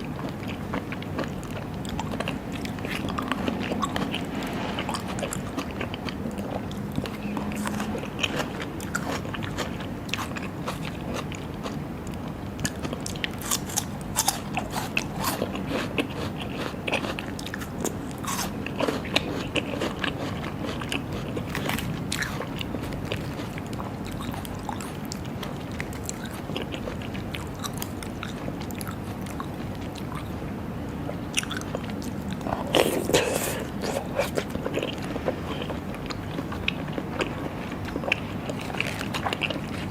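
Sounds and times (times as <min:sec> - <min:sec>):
chewing raw seafood: 0:00.0 - 0:39.9.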